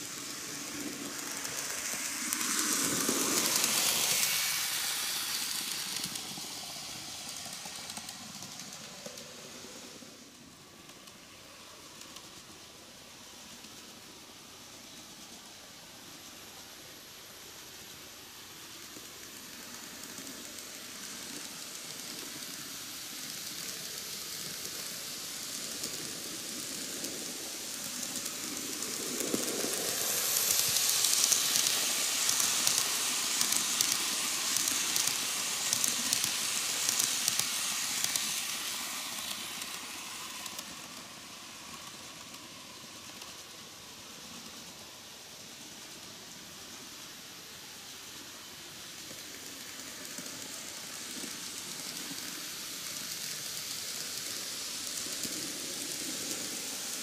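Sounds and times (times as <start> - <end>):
light rapid clicking of wheels: 0.0 - 57.0
model train rumbling on track: 0.0 - 57.0.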